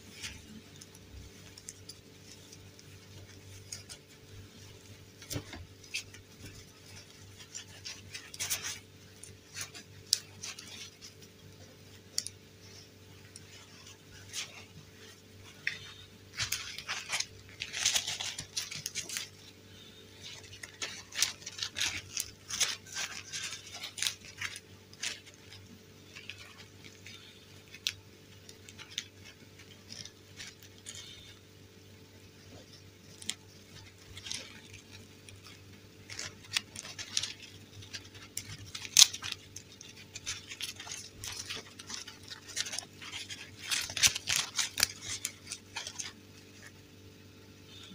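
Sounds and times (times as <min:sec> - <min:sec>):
dolls and fabric rustling: 0:00.0 - 0:47.9
faint low hum: 0:00.0 - 0:47.9.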